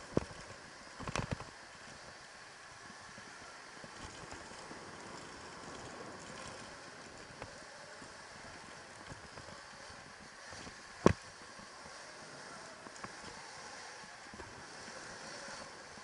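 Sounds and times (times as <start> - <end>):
dirt bike tyre and rattle noise: 0.0 - 16.0.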